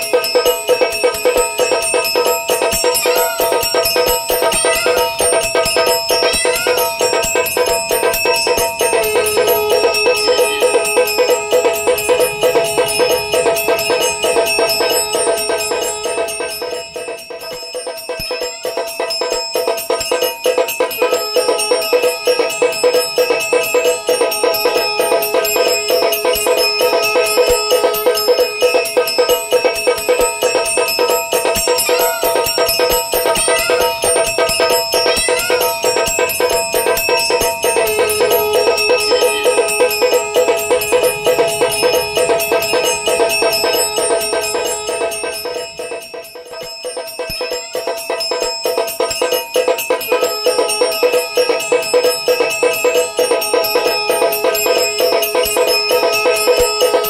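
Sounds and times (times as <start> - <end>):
bell struck rapidly by machine: 0.0 - 57.0.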